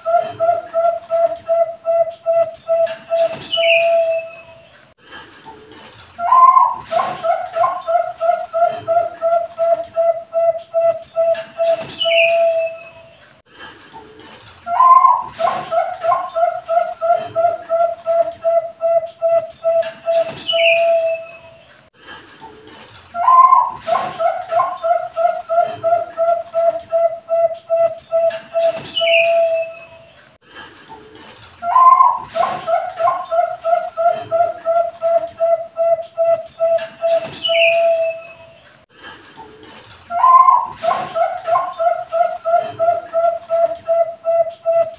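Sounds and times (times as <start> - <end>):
falling whistle: 0.0 - 4.4, 6.2 - 13.0, 14.7 - 21.4, 23.2 - 29.9, 31.6 - 38.4, 40.1 - 44.9
dove cooing: 0.0 - 4.7, 6.2 - 13.1, 14.7 - 21.5, 23.2 - 30.0, 31.6 - 38.5, 40.1 - 44.9.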